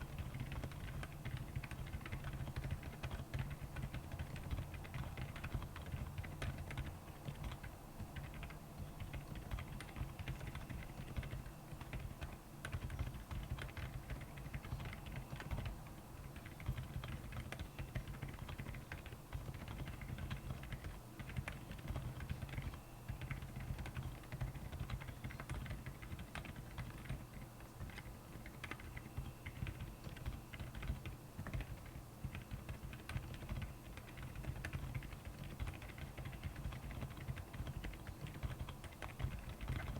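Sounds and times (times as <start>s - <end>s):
soft keyboard keystrokes: 0.0s - 39.9s.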